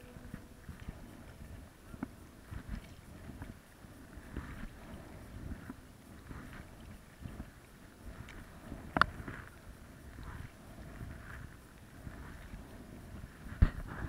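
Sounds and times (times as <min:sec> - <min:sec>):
paddle strokes in water: 0:00.0 - 0:14.0.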